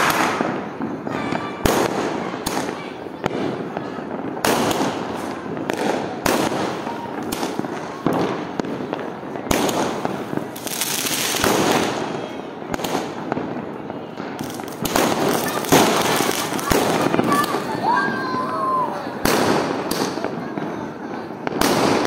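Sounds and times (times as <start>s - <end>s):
firecracker bangs: 0.0s - 22.0s
fireworks crackling: 0.0s - 22.0s.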